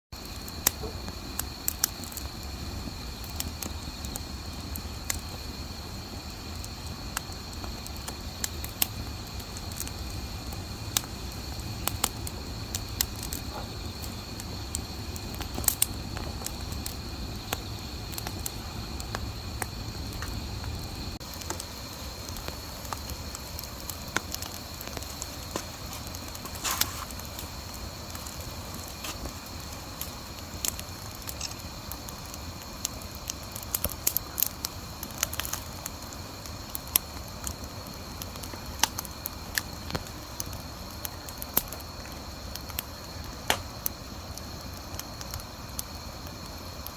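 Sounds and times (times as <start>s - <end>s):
insects chirring: 0.1s - 46.9s
wood bonfire crackling: 0.1s - 46.9s.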